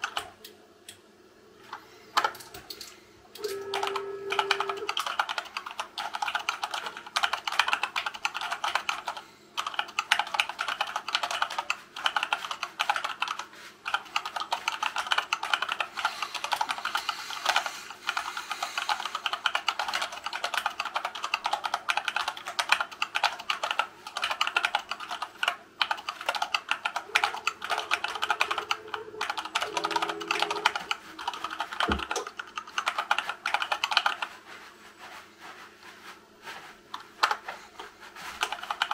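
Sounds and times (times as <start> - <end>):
fast keyboard typing: 0.0 - 0.3, 3.4 - 34.4, 36.9 - 37.5, 38.2 - 38.9.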